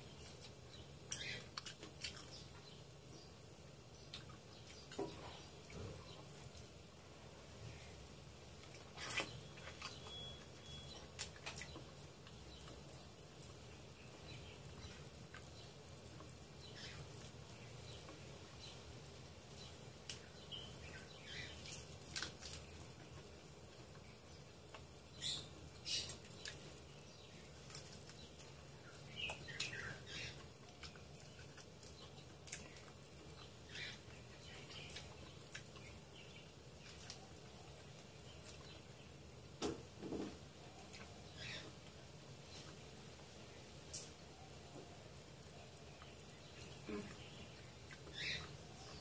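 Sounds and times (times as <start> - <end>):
faint background hum: 0.0 - 49.0.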